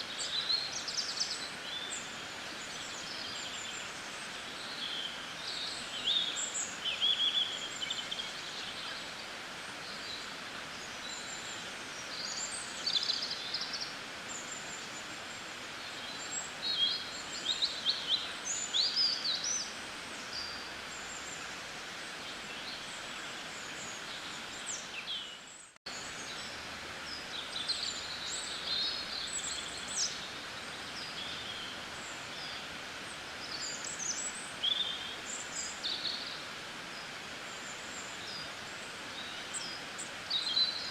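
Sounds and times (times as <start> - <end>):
small birds chirping: 0.0 - 40.9
steady background hiss: 0.0 - 40.9.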